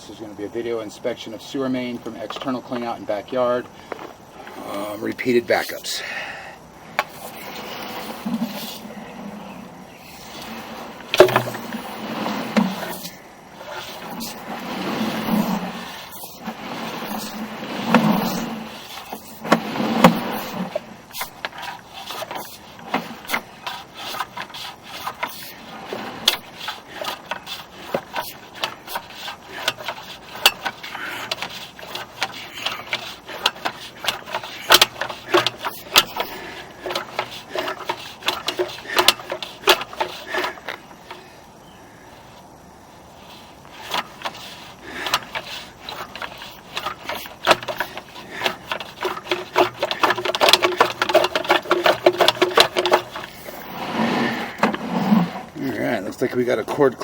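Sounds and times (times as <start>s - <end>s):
cable rod clicking and scraping: 6.9s - 41.2s, 43.3s - 55.6s.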